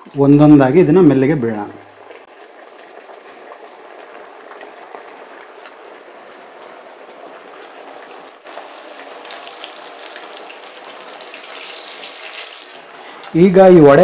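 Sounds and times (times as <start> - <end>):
food deep-frying in oil: 1.9 - 14.0.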